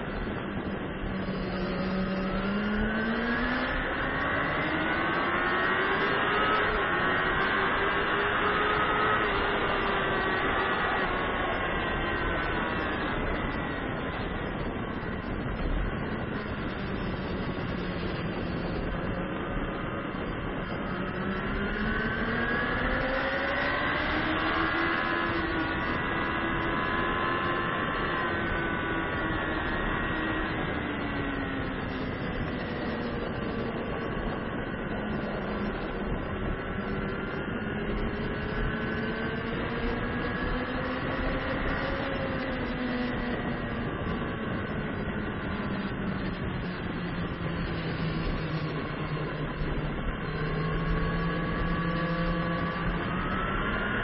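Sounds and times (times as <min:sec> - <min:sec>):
motorcycle engine at racing speed: 0:00.0 - 0:54.0.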